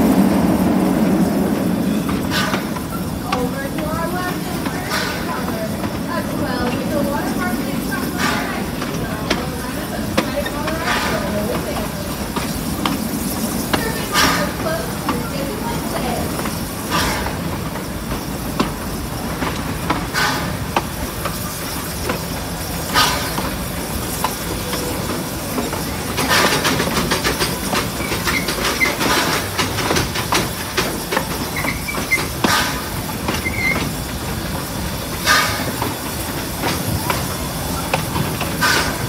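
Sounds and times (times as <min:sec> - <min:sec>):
steam hissing: 0:00.0 - 0:39.0
train rumbling on track: 0:00.0 - 0:39.0
wheels clacking over rail joints: 0:00.0 - 0:39.0.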